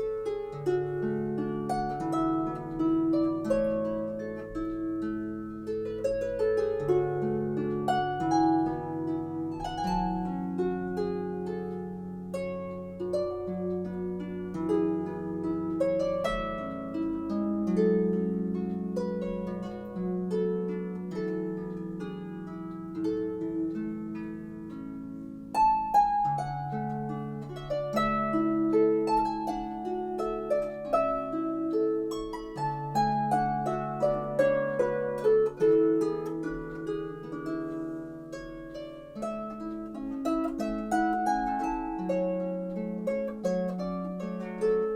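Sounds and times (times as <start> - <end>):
solo harp music: 0.0 - 44.9.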